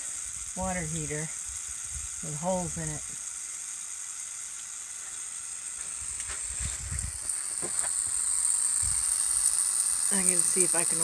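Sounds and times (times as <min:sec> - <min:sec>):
water spraying from pipe: 0:00.0 - 0:11.0.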